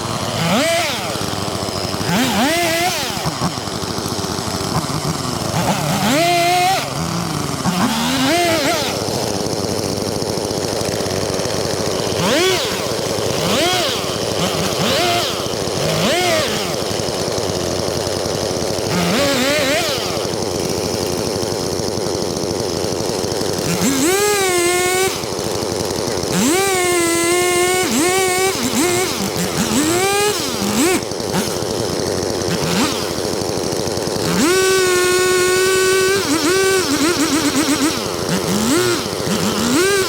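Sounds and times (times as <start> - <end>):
chainsaw revving: 0.0 - 40.0.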